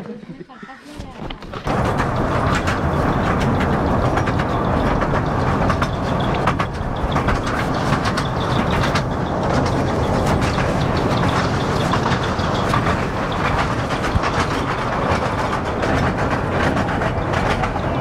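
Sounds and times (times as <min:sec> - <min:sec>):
carriages clicking and rattling: 0:01.0 - 0:18.0
toy train rumbling: 0:01.4 - 0:18.0.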